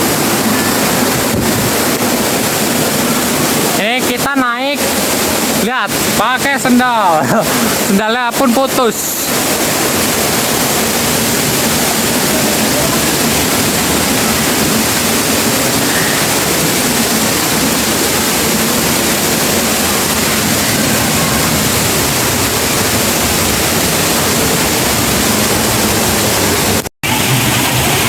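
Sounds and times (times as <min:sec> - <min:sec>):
loud rush of falling water: 0:00.0 - 0:28.0.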